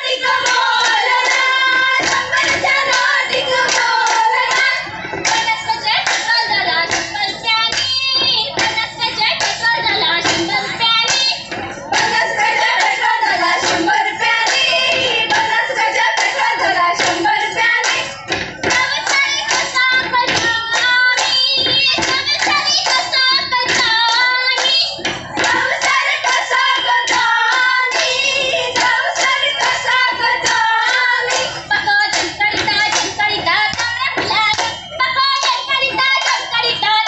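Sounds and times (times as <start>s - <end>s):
rhythmic hand claps: 0.0s - 37.0s
women singing together: 0.0s - 37.0s.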